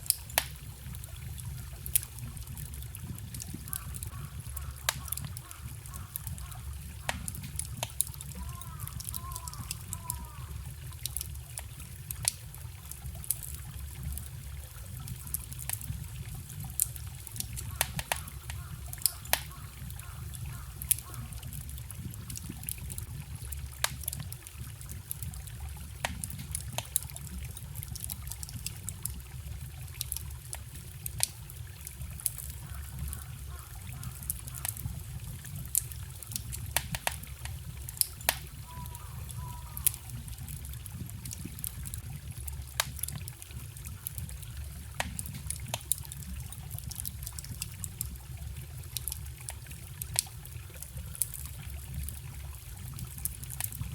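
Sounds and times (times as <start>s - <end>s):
small stream trickling: 0.0s - 53.9s
wood fire crackling: 0.0s - 53.9s.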